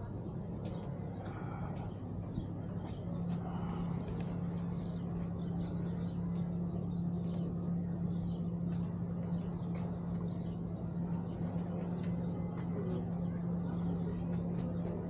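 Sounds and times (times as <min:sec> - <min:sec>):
low motor hum: 0:00.0 - 0:15.0
small birds chirping: 0:00.2 - 0:15.0.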